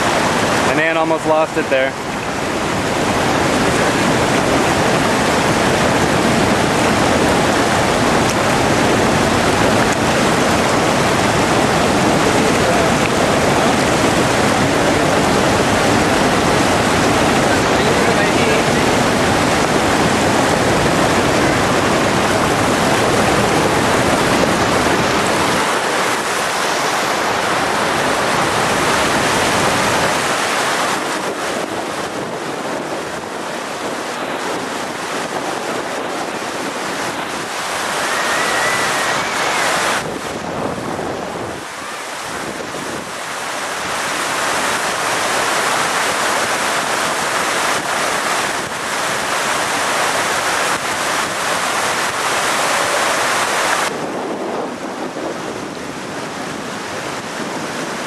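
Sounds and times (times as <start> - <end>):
roar of rushing water: 0.0 - 58.0.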